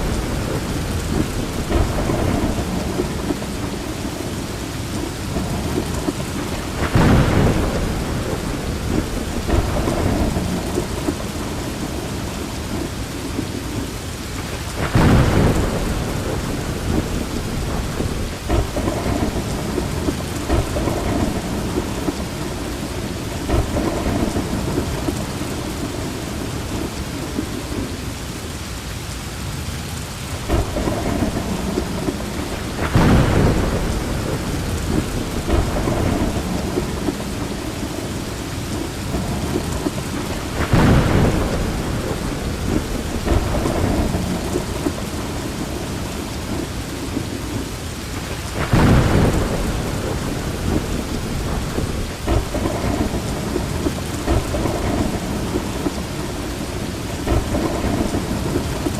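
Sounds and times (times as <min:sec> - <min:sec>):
thunder claps: 0:00.0 - 0:28.0, 0:30.4 - 0:58.9
heavy rain pouring: 0:00.0 - 0:58.9.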